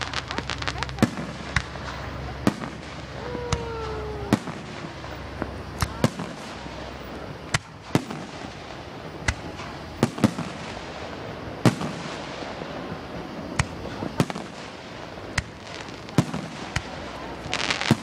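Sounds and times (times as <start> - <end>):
firework shells bursting: 0.0 - 18.0
steady background noise: 0.0 - 18.0.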